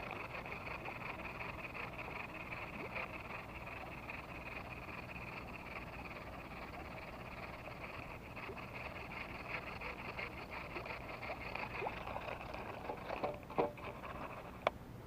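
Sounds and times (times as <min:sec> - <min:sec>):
small ticks and chirps: 0:00.0 - 0:12.6.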